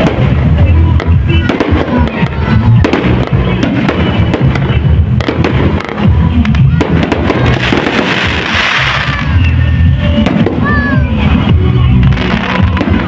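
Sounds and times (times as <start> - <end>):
dense fireworks crackle: 0.0 - 13.0
fireworks bursting with sharp bangs: 0.0 - 13.0
music playing: 0.0 - 13.0.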